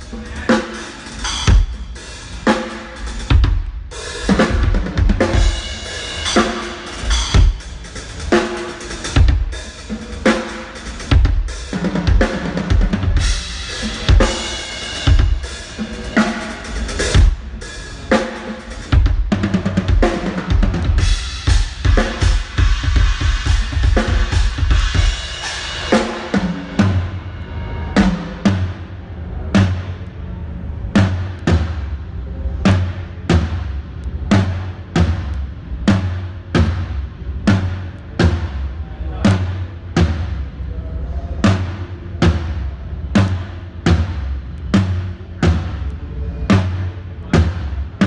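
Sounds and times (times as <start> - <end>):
drum kit playing: 0.0 - 30.0, 30.9 - 32.0, 32.6 - 40.5, 41.4 - 48.0.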